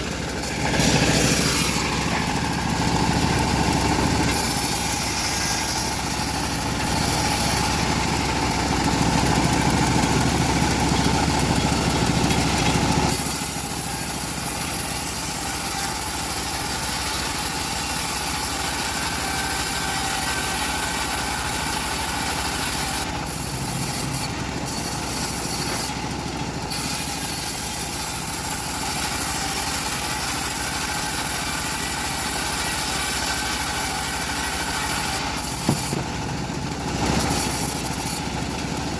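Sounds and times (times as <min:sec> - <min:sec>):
bandsaw sawmill running: 0:00.0 - 0:38.9.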